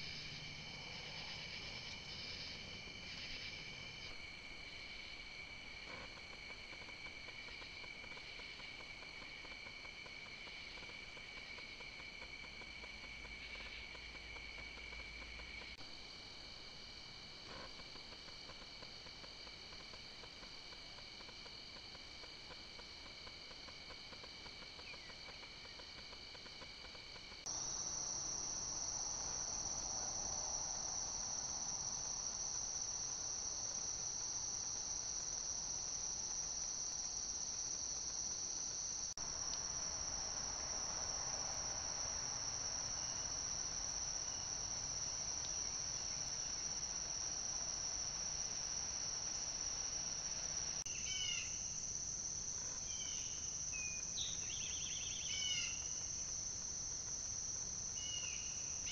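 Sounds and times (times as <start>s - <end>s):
insect chorus trilling: 0.0s - 58.9s.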